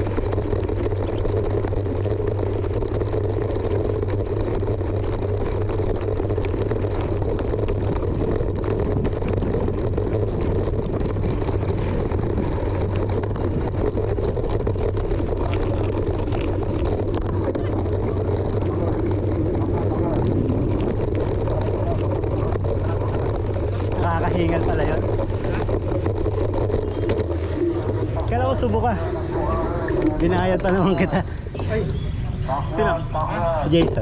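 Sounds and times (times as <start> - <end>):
mountain bike rattling on dirt: 0.0 - 34.0
wind rumble on microphone: 0.0 - 34.0.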